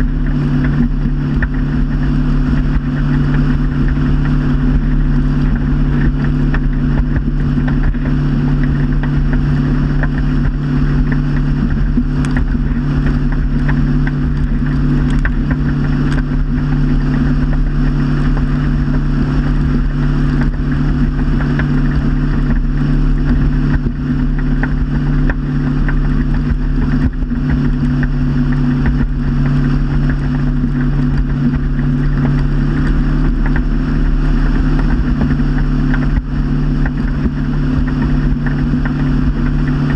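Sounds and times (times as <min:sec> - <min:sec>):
motorboat engine drone: 0:00.0 - 0:39.9
water wash: 0:00.0 - 0:39.9.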